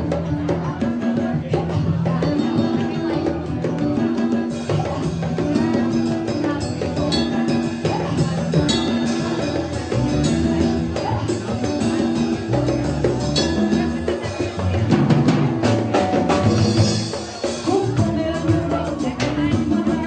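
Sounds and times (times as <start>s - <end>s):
hand drumming: 0.0s - 20.0s
keyboard: 0.0s - 20.0s
live band music: 0.0s - 20.0s.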